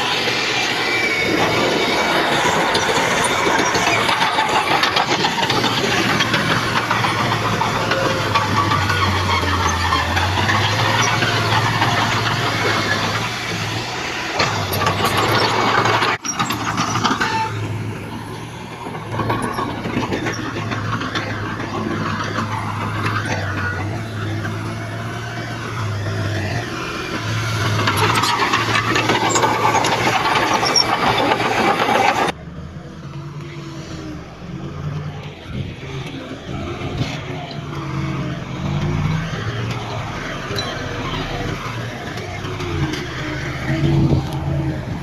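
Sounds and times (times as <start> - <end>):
clatter and grinding: 0.0 - 45.0
heavy diesel machinery running: 0.0 - 45.0.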